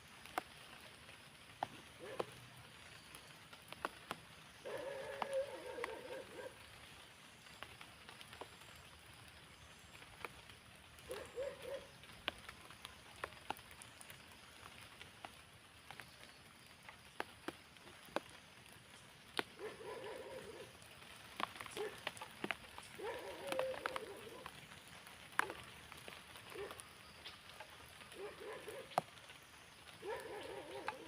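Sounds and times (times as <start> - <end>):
light rain hiss: 0.0 - 31.0
raindrops dripping on surfaces: 0.0 - 31.0.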